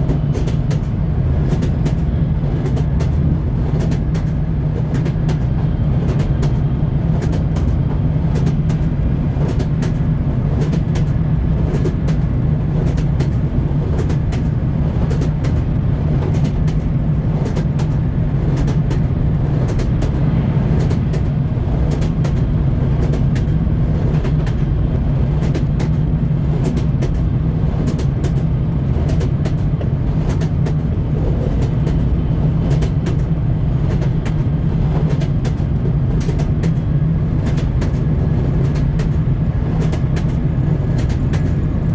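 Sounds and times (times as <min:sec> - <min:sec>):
train wheels clacking over rail joints: 0:00.0 - 0:41.7.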